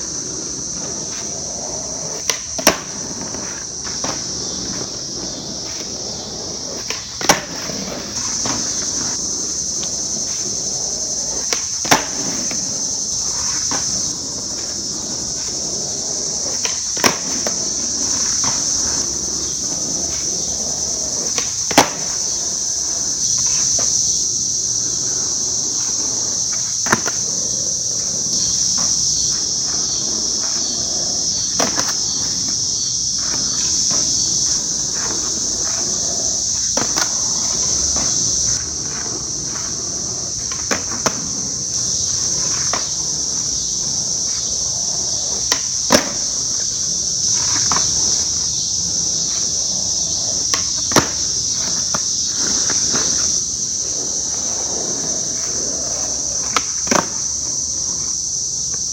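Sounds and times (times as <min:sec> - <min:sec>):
skateboard popping and landing: 0:00.0 - 0:24.1, 0:24.7 - 0:58.1
insects chorus: 0:00.0 - 0:58.9.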